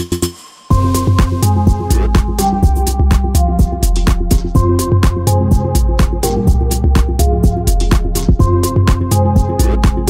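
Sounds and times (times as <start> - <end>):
electronic house music: 0.0 - 10.0.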